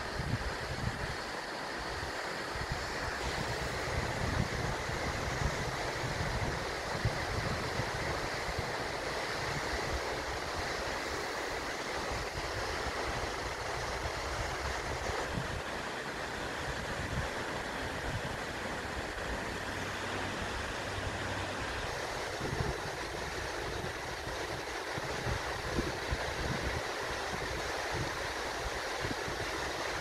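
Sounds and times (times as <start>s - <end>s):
wind rumble on microphone: 0.0s - 1.2s, 2.5s - 11.3s, 12.1s - 15.8s, 16.4s - 30.0s
waterfall rushing: 0.5s - 30.0s.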